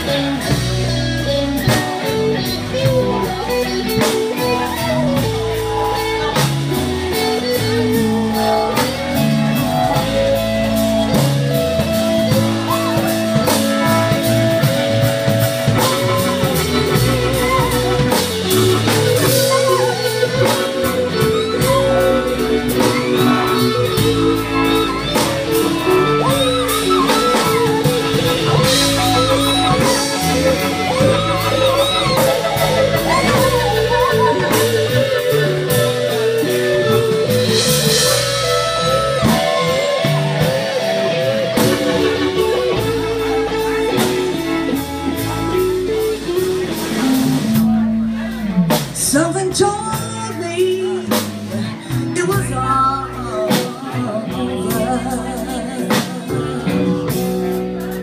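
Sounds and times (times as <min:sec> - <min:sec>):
bass line: 0:00.0 - 0:58.0
drums: 0:00.0 - 0:58.0
lead guitar with bent notes: 0:00.0 - 0:58.0.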